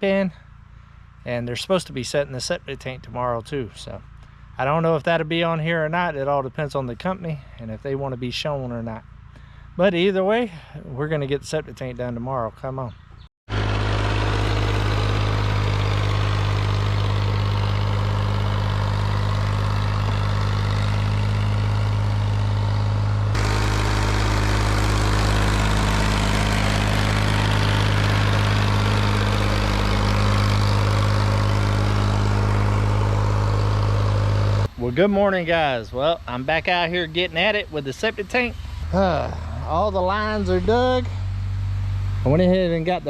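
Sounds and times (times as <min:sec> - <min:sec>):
engine running steadily: 0:00.0 - 0:11.8, 0:13.5 - 0:43.0.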